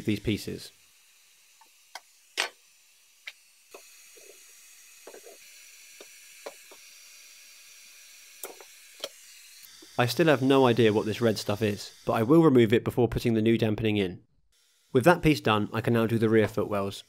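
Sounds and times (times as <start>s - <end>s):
heat gun hiss: 0.0s - 12.6s, 14.5s - 17.0s.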